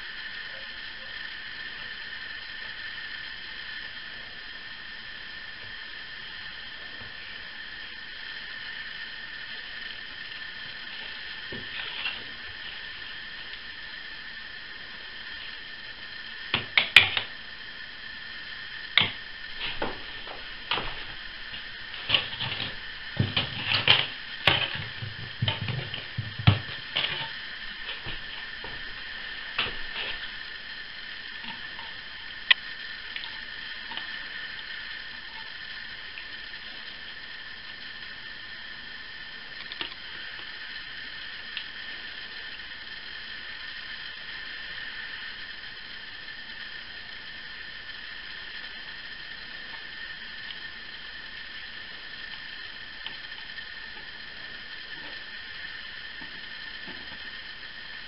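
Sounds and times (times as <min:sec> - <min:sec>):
faint high whine: 0:00.0 - 0:58.0
steady hiss: 0:00.0 - 0:58.0.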